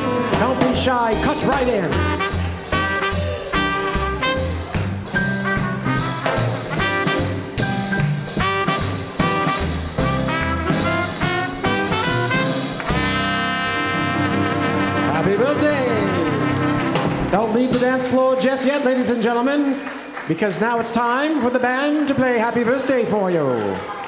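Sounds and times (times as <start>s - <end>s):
swing band playing live: 0.0s - 20.1s.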